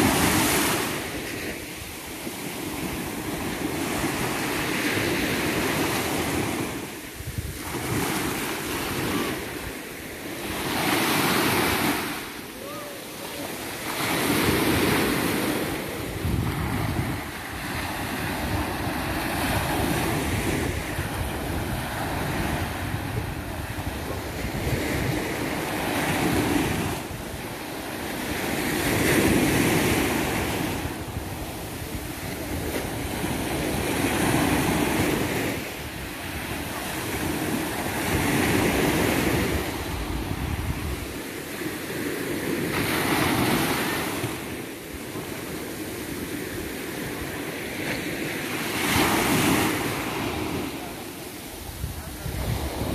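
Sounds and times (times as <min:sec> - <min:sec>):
wind rumbling on microphone: 0:00.0 - 0:44.7, 0:48.8 - 0:52.9
sea waves breaking on sand: 0:00.0 - 0:52.9.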